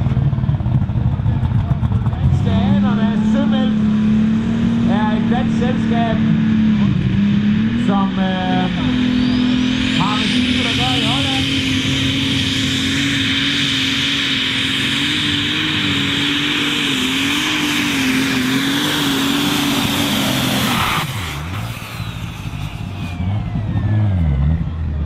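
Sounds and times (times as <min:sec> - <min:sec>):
diesel engine running under load: 0:00.0 - 0:25.0
high turbo whine: 0:00.0 - 0:25.0.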